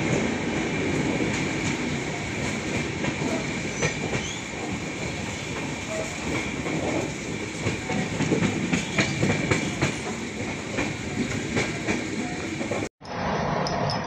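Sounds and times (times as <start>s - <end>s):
clickety-clack rail-joint clicks: 0.0s - 14.0s
wheels rumbling on rail: 0.0s - 14.0s.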